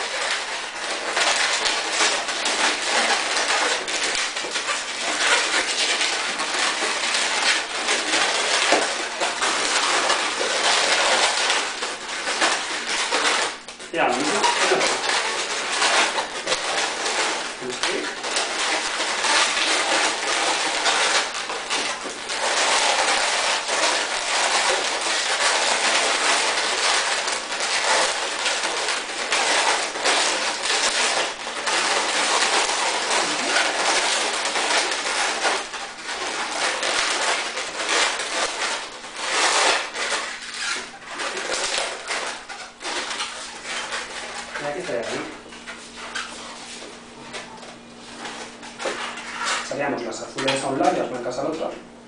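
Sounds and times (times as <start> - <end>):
balloons squeaking and rubbing: 0.0 - 51.7.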